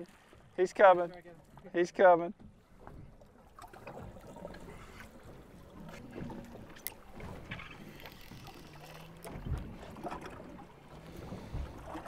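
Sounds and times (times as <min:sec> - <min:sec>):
water lapping at hull: 0:00.0 - 0:12.0.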